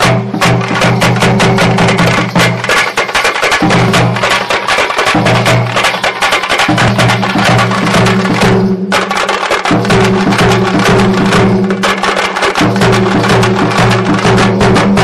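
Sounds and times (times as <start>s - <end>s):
fast frame drum drumming: 0.0s - 15.0s.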